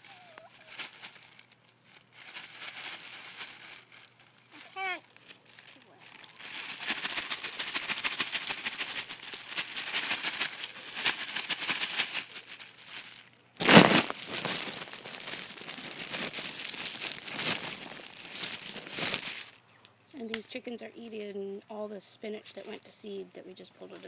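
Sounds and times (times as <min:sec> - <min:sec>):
plastic bag crinkling: 0:00.0 - 0:19.6.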